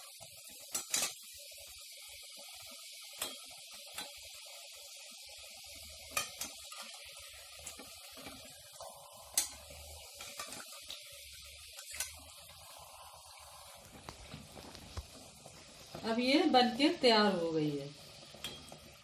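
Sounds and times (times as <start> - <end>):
oil sizzling while deep-frying: 0.0 - 19.0.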